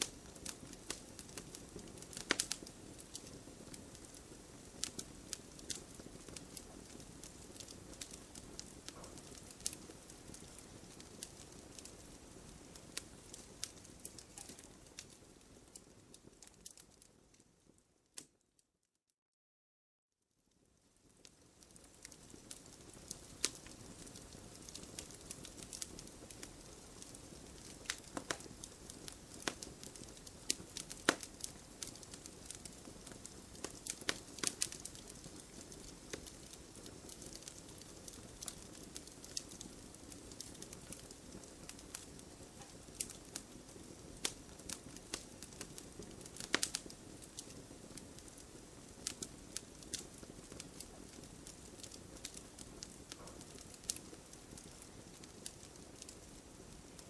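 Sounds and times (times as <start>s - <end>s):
soft rush of burning: 0.0s - 18.3s, 20.6s - 57.0s
campfire crackling and popping: 0.0s - 18.4s, 20.6s - 57.0s.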